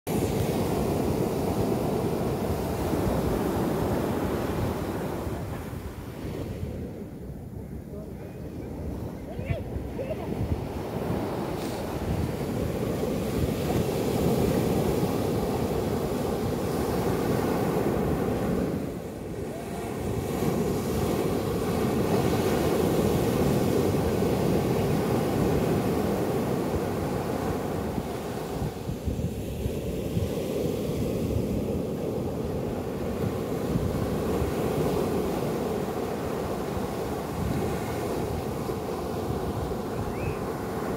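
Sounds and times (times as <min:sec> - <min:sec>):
sea waves washing up shore: 0:00.1 - 0:07.1, 0:08.6 - 0:40.9.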